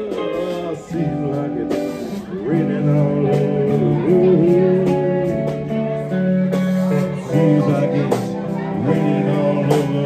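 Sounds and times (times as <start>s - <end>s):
electric guitar: 0.0s - 10.0s
live band playing soul ballad: 0.0s - 10.0s.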